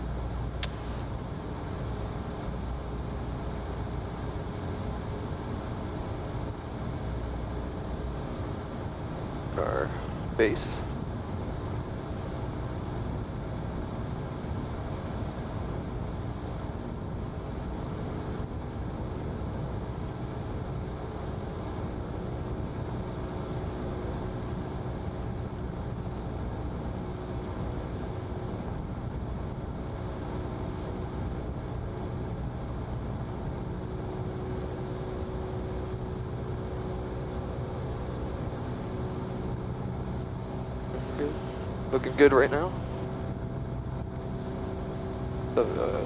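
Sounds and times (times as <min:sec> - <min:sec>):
airplane engine drone in cabin: 0:00.0 - 0:46.0.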